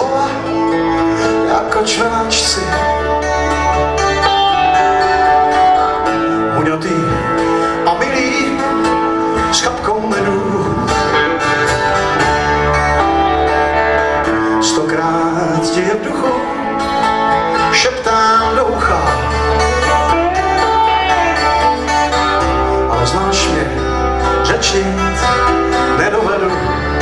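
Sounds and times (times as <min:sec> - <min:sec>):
live blues band playing: 0:00.0 - 0:27.0.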